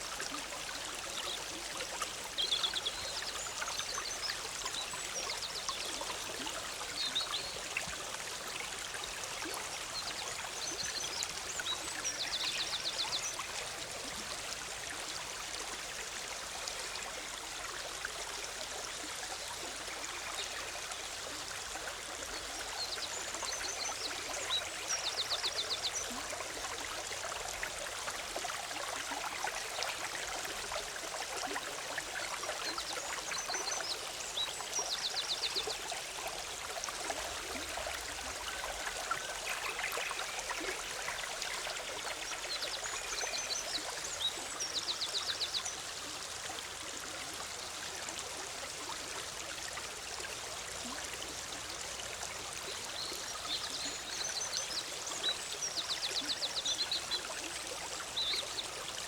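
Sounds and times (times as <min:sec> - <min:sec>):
stream bubbling over rocks: 0:00.0 - 0:59.0.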